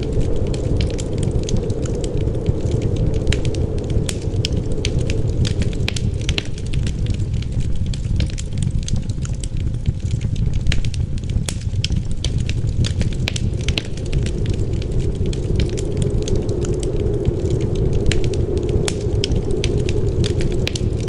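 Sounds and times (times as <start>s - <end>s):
wind rumbling: 0.0s - 21.0s
wood fire crackling: 0.0s - 21.0s.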